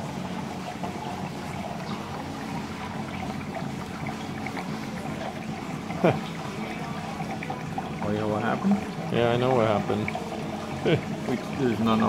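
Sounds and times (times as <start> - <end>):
low steady hum: 0.0 - 12.0
water running into lock chamber: 0.0 - 12.0.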